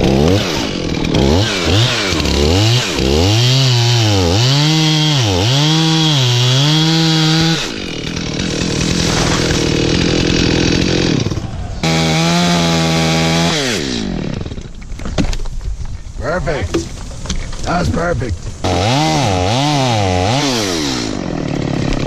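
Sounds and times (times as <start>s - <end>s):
chainsaw revving and cutting: 0.0s - 14.8s, 18.6s - 22.0s.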